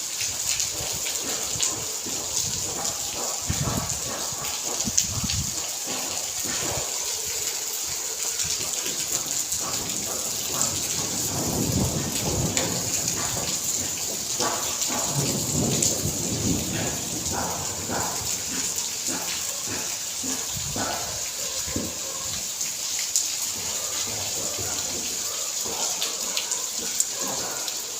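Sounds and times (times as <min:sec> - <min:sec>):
raindrops striking a surface: 0:00.0 - 0:27.9
steady rain falling: 0:00.0 - 0:27.9.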